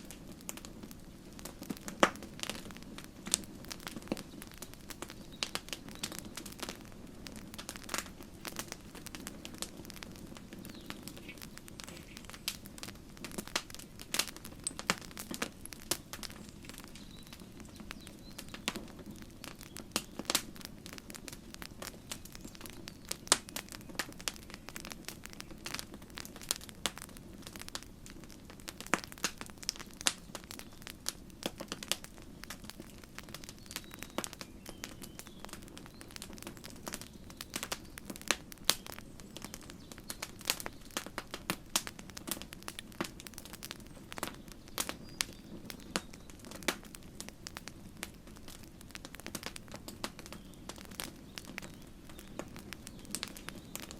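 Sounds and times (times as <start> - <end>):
campfire crackling and popping: 0.0 - 53.9
low hiss of burning: 0.0 - 53.9.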